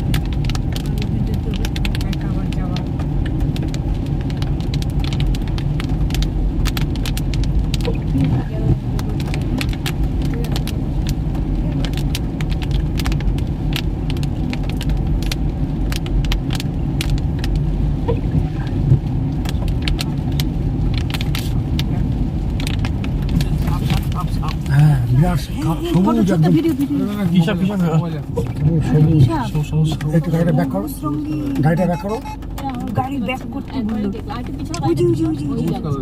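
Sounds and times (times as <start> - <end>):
engine and road rumble: 0.0 - 36.0.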